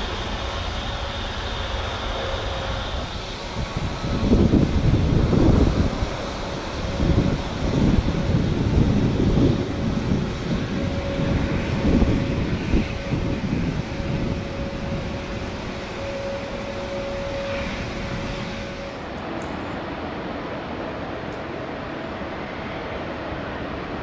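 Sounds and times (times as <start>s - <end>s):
jet engines rumbling: 0.0s - 24.0s
wind buffeting microphone: 0.0s - 24.0s.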